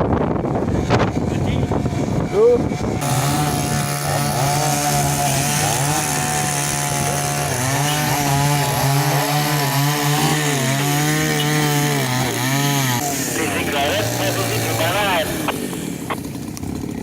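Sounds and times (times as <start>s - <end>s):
small petrol engine running: 0.3s - 17.0s.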